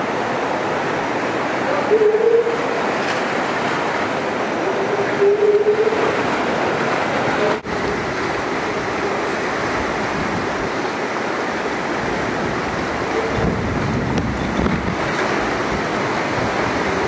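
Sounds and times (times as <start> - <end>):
hurricane-force wind: 0.0 - 17.0
waves washing over seawall: 0.0 - 17.0.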